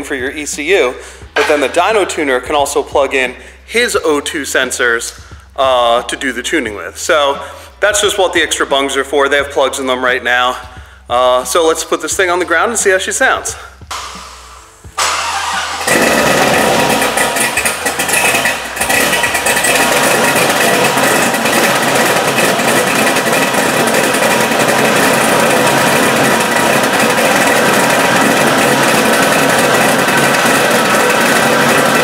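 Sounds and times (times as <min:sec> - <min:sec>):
car engine starting and idling: 0:00.0 - 0:32.0.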